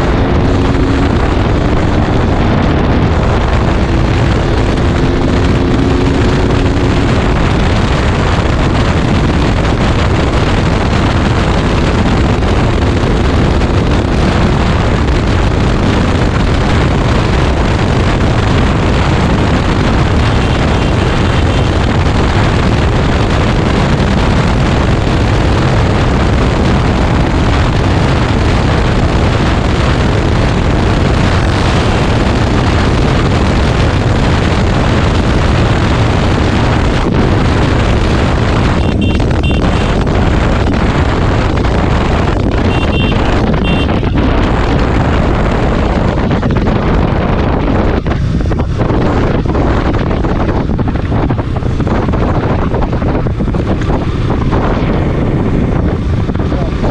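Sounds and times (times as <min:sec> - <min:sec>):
motorcycle engine: 0:00.0 - 0:56.9
wind rushing over microphone: 0:00.0 - 0:56.9.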